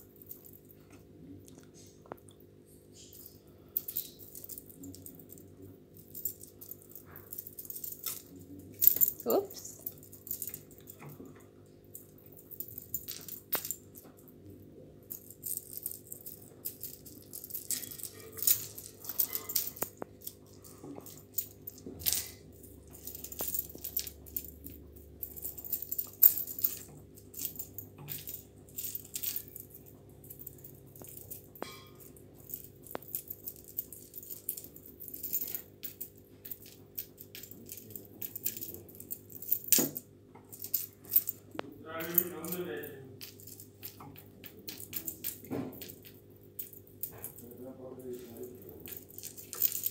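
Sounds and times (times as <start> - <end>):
metal chain jingling and clinking: 3.0 - 14.1, 15.1 - 49.9.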